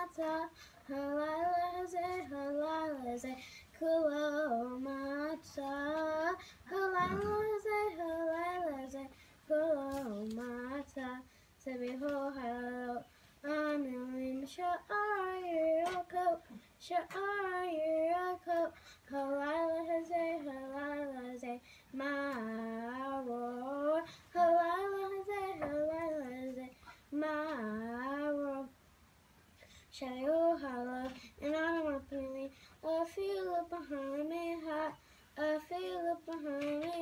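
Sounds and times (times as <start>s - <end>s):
girl singing unaccompanied: 0.0s - 37.0s.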